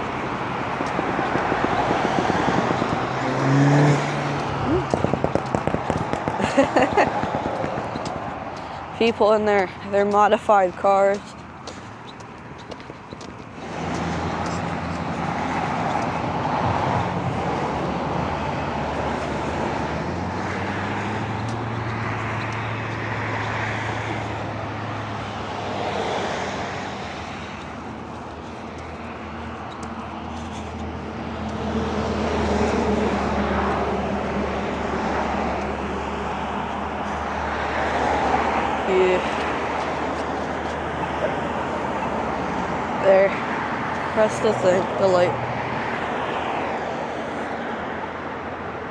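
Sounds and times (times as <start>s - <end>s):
cars driving past: 0.0s - 48.9s.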